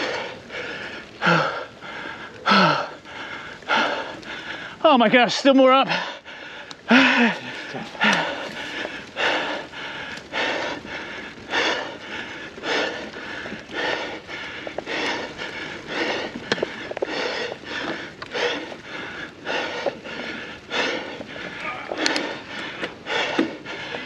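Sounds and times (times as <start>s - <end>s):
man breathing heavily: 0.0s - 4.9s, 5.8s - 24.0s.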